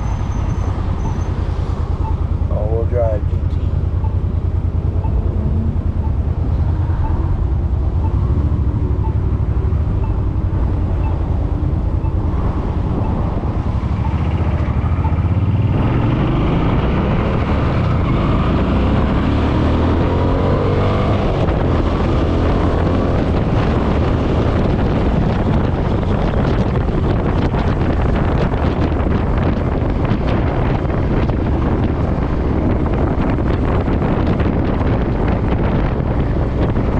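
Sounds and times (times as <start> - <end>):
motorcycle engine accelerating: 3.6 - 36.9.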